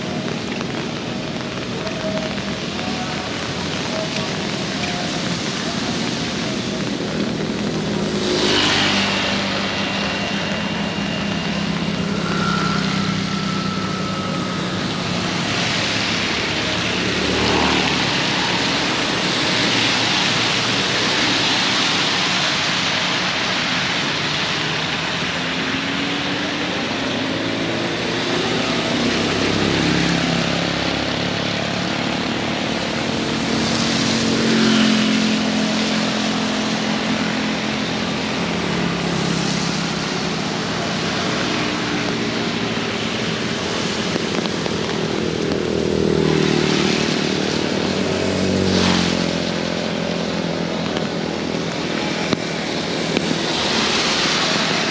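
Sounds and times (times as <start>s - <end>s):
heavy rain hissing: 0.0s - 54.9s
vehicles passing on wet road: 0.0s - 54.9s.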